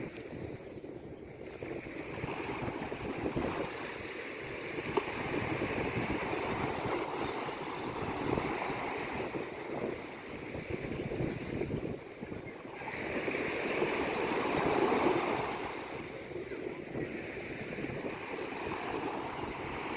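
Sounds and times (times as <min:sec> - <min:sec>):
sea waves washing on shore: 0:00.0 - 0:19.9.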